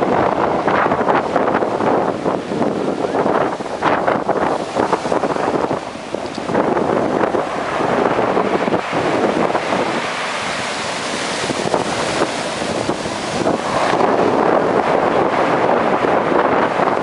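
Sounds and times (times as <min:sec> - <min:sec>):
surf washing onto shore: 0:00.0 - 0:17.0
wind buffeting microphone: 0:00.0 - 0:17.0.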